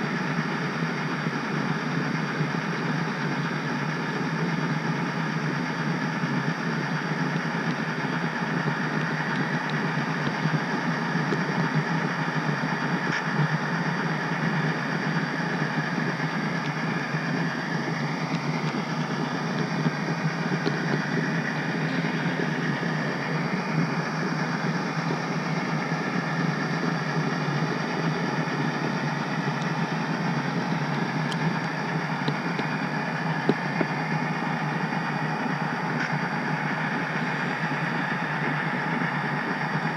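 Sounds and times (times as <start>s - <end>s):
model train rolling on track: 0.0s - 39.9s.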